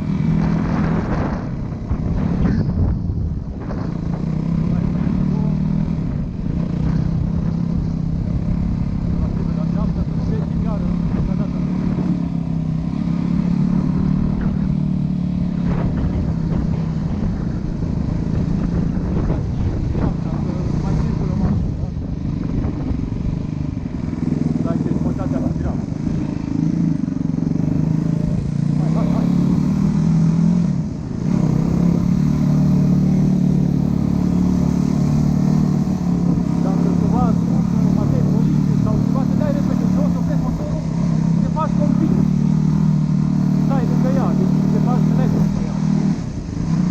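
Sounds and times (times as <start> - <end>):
dirt bike engine running: 0.0 - 46.9.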